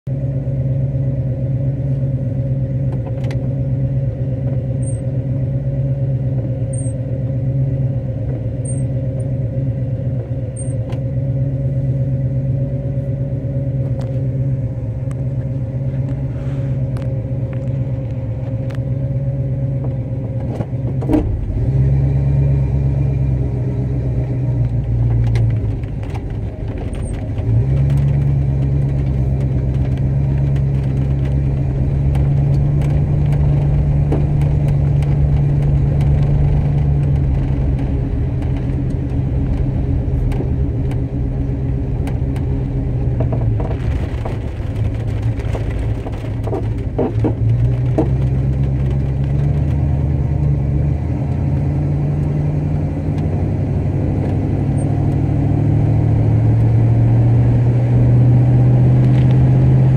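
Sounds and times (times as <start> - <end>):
car engine running: 0.1 - 59.9.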